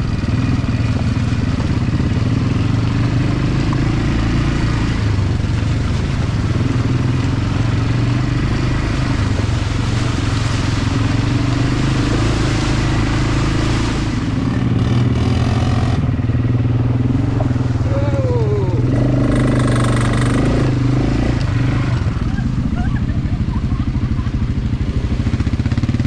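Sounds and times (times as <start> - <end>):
quad bike engine running: 0.0 - 26.0.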